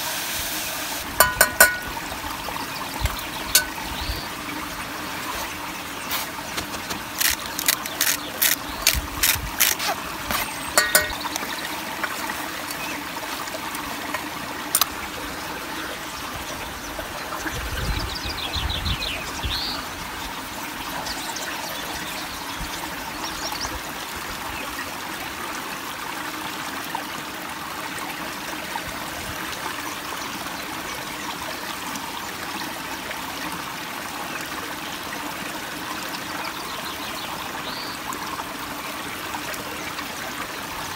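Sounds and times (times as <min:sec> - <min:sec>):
stream trickling over rocks: 0:00.7 - 0:40.9.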